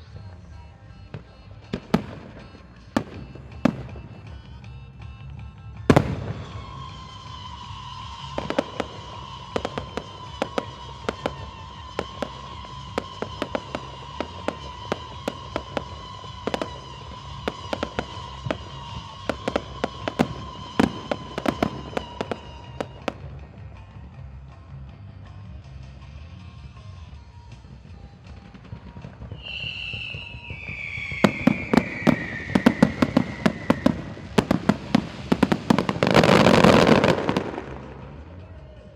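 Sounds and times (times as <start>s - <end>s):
fireworks crackling pops: 0.0s - 38.9s.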